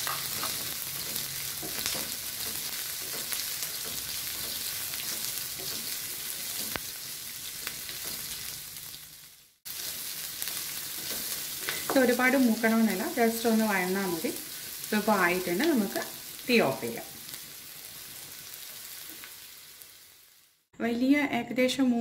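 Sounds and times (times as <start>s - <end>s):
vegetables sizzling in hot oil: 0.0s - 20.7s.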